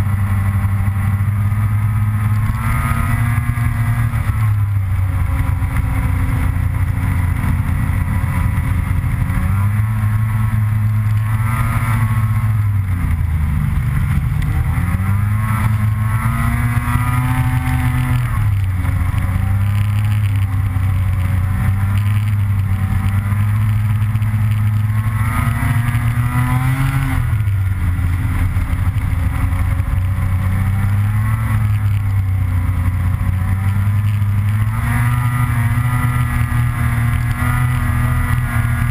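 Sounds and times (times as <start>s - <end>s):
snowmobile engine droning: 0.0s - 38.9s.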